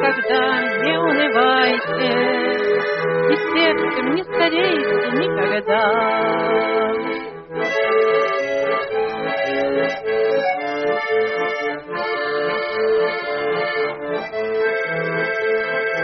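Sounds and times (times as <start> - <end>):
button accordion playing: 0.0 - 16.0.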